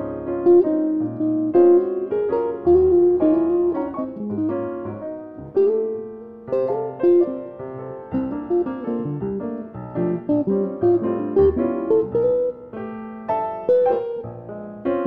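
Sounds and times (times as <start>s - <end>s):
jazz piano ballad: 0.0s - 15.0s.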